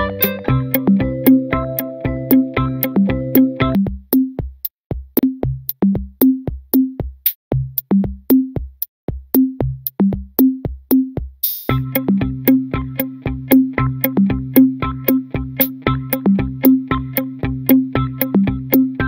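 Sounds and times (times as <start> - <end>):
drum-machine beat with bass: 0.0 - 19.0.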